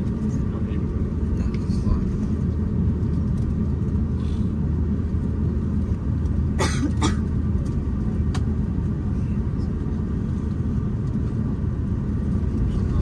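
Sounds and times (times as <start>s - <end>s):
low aircraft cabin rumble: 0.0s - 13.0s.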